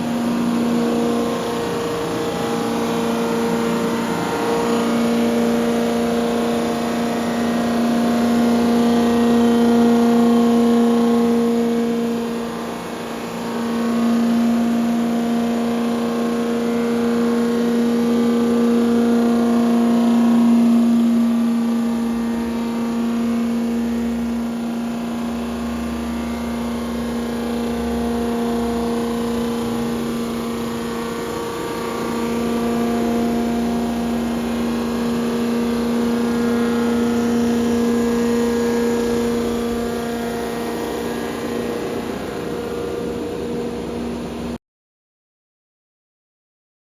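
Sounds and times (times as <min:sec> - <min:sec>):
machining equipment humming: 0:00.0 - 0:44.6.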